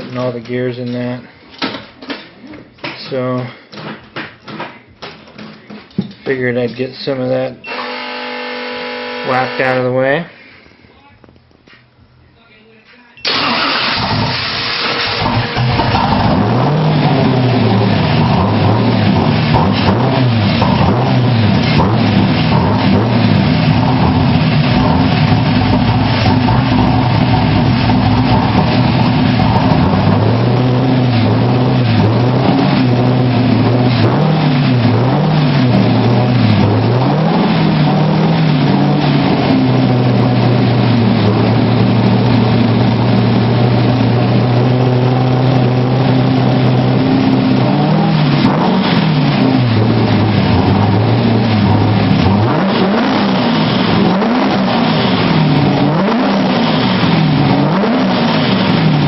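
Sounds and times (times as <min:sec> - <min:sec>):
car engine revving: 0:07.7 - 0:09.9, 0:13.3 - 0:59.0.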